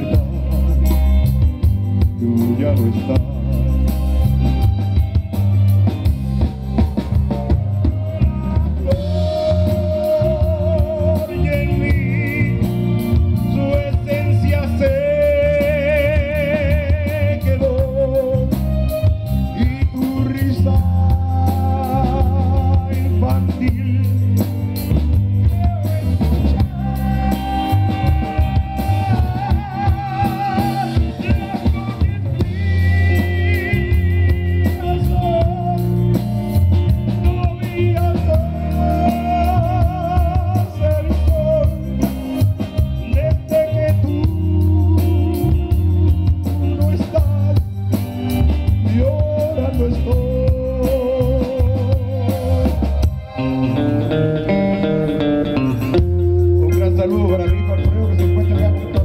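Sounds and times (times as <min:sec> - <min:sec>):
live band playing latin song: 0:00.0 - 0:59.0.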